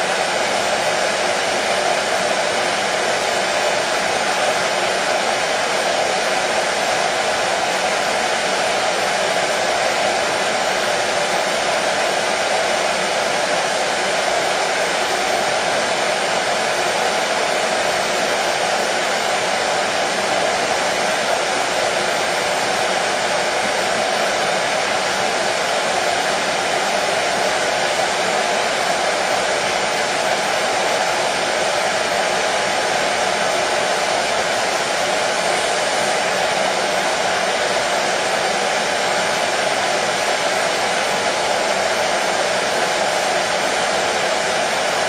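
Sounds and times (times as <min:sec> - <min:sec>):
hair dryer running: 0:00.0 - 0:45.0.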